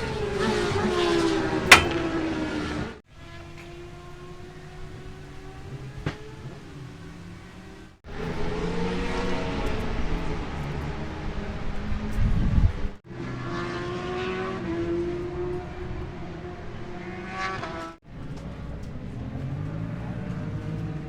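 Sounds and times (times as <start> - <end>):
racing motorcycle engines revving: 0.0 - 21.0.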